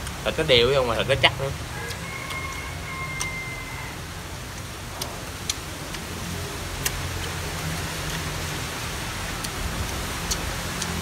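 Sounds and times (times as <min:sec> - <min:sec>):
person chewing crunchy food: 0:01.8 - 0:11.0.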